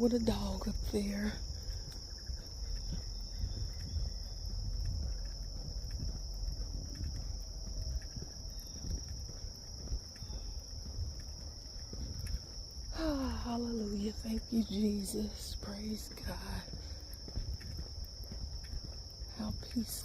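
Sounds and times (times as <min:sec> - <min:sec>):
low rumble: 0:00.0 - 0:18.6
crickets chirping: 0:00.0 - 0:20.0
footsteps on trail: 0:00.0 - 0:20.0.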